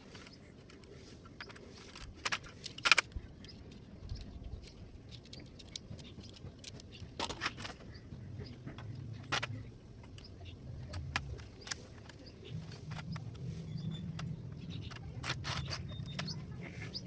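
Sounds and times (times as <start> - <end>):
laptop parts clicking and scraping: 0.0 - 17.0.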